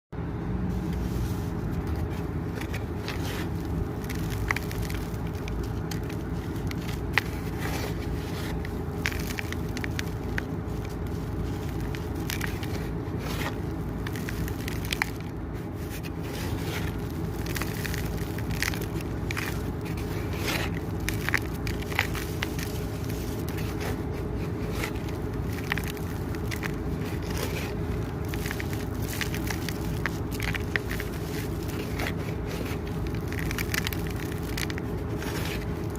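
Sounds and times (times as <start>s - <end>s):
dry cement pouring and crunching: 0.6s - 35.9s.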